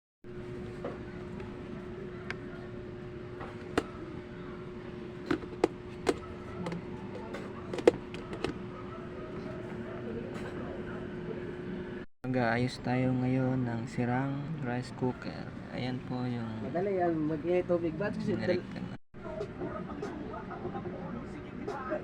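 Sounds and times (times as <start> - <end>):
steady hum: 0.3 - 22.0.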